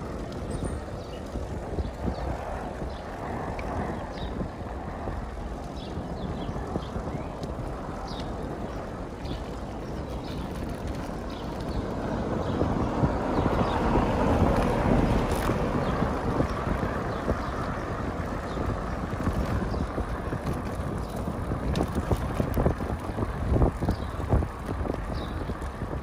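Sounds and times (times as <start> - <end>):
bicycle tyre rumble on asphalt: 0.0 - 26.0
wind buffeting microphone: 0.0 - 26.0.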